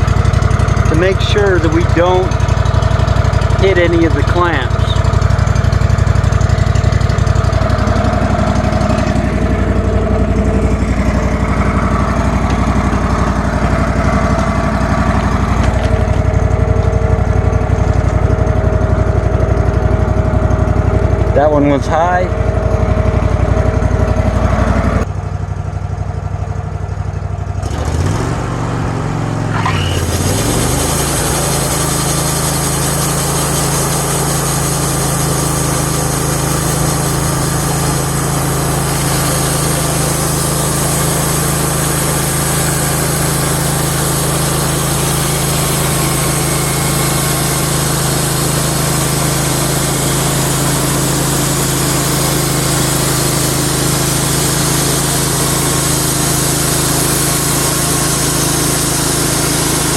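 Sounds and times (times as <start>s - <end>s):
small gas engine running: 0.0s - 59.9s.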